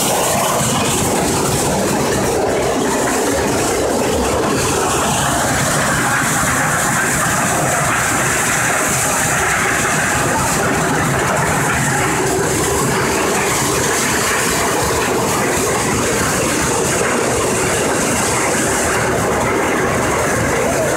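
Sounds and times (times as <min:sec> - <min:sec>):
conveyor belts and sorting machine: 0:00.0 - 0:20.9
dense mechanical rumble: 0:00.0 - 0:20.9.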